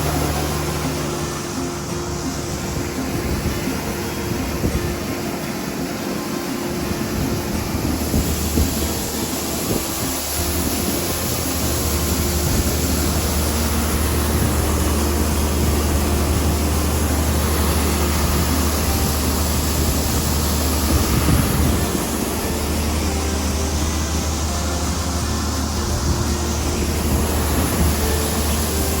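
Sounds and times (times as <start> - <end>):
farm machine engine droning: 0.0 - 29.0.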